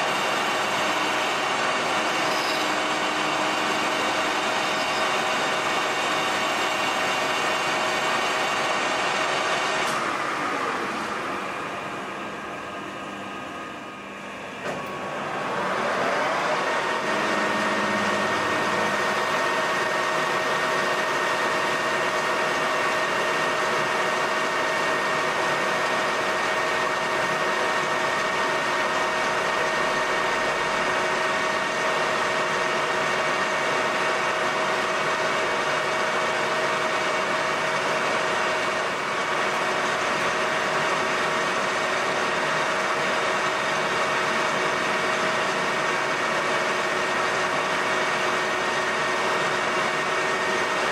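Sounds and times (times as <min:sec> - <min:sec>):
lathe headstock whine: 0:00.0 - 0:50.9.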